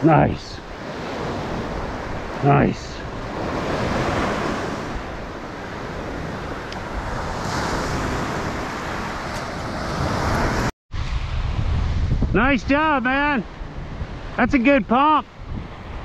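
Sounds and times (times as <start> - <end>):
surf washing up beach: 0.0 - 16.0
wind on microphone: 0.2 - 16.0.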